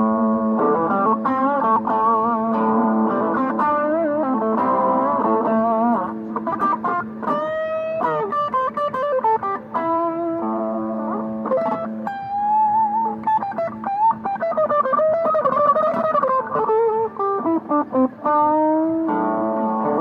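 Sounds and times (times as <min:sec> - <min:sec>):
guitar melody with bent notes: 0:00.0 - 0:20.0.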